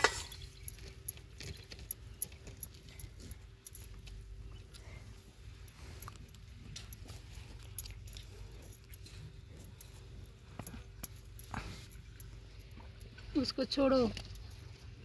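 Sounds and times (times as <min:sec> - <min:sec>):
bangles clinking: 0:00.0 - 0:04.6, 0:05.4 - 0:13.2
low steady rumble: 0:00.0 - 0:15.0.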